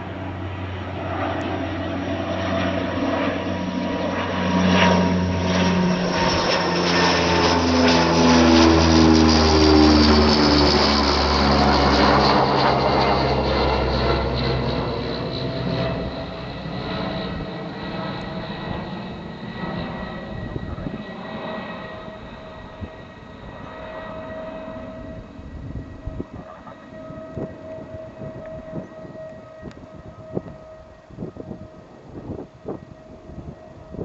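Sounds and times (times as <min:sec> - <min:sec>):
high-pitched engine whine: 0:00.0 - 0:34.0
turboprop aircraft passing overhead: 0:00.0 - 0:34.0.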